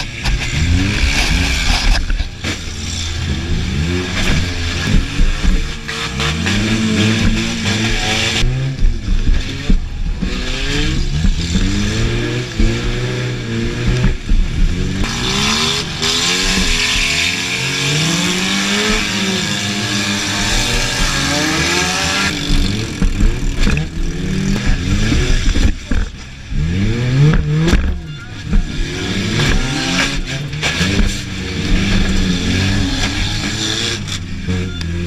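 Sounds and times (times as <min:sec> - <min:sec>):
steady rushing noise: 0:00.0 - 0:34.2
car engine revving: 0:00.0 - 0:35.0.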